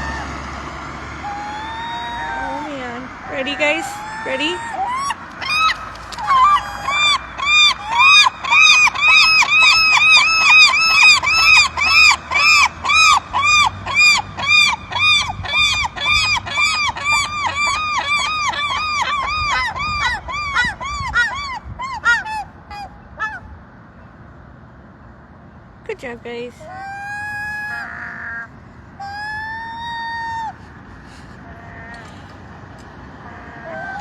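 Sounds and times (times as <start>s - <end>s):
gull squawking: 1.2s - 23.4s, 26.6s - 34.0s.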